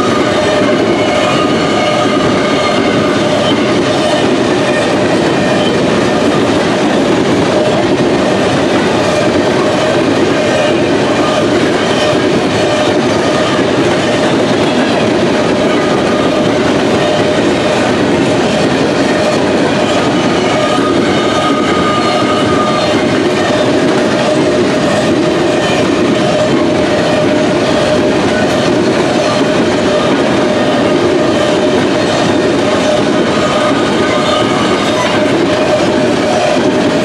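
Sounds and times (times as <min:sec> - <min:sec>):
freight train wheels clattering: 0:00.0 - 0:37.0.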